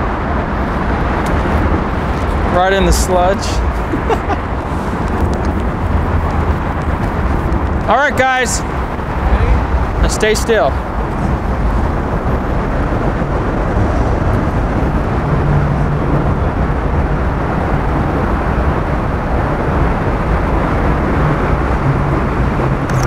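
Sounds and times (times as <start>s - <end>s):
distant traffic rumble: 0.0s - 23.0s.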